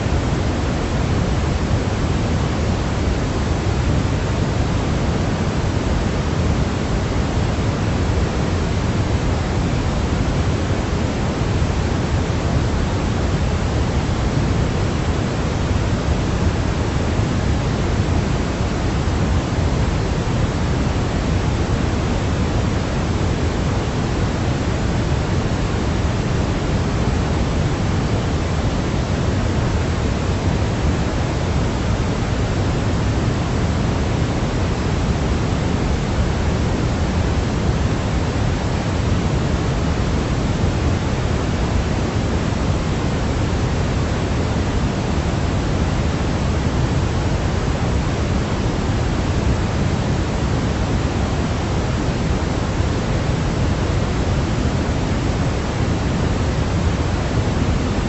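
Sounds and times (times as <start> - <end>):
pink noise rush: 0.0 - 58.0.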